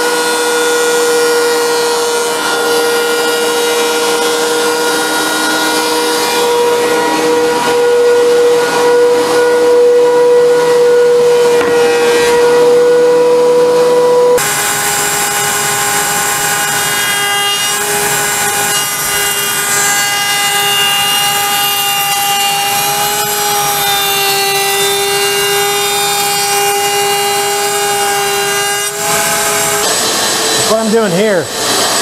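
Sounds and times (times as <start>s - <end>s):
router whining cutting wood: 0.0s - 32.0s.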